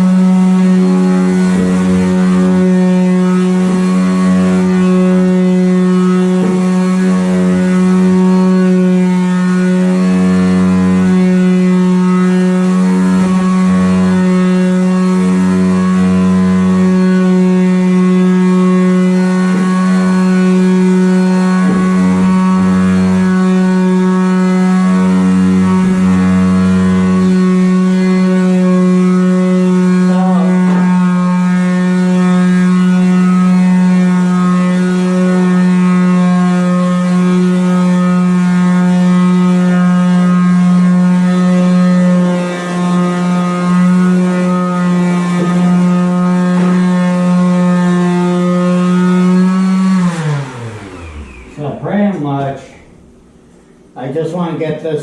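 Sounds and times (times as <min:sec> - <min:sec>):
power sander on metal: 0:00.0 - 0:53.8.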